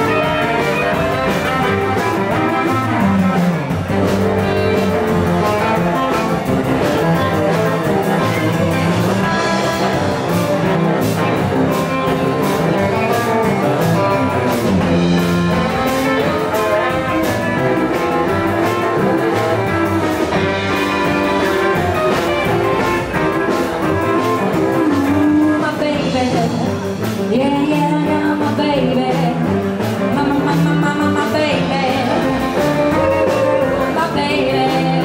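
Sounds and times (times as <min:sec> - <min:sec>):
live blues band playing: 0:00.0 - 0:35.0.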